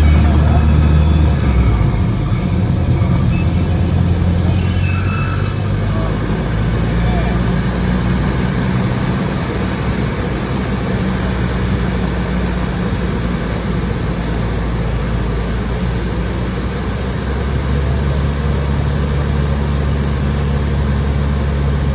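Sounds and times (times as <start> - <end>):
propeller plane engine droning: 0.0 - 21.9.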